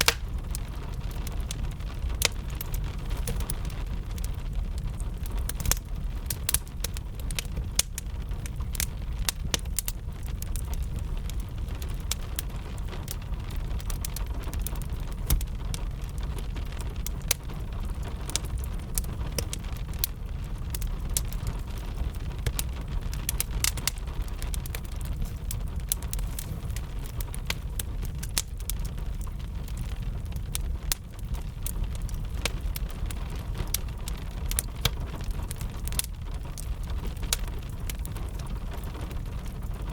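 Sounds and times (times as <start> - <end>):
fire crackling and popping: 0.0 - 39.9
steady rain: 0.0 - 39.9.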